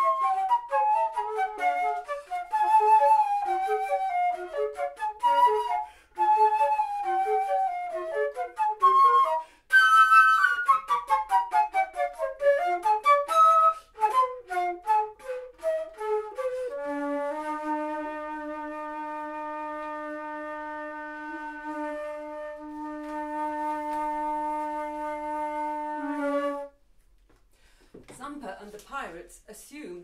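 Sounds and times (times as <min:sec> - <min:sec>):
wooden flutes playing: 0:00.0 - 0:26.8.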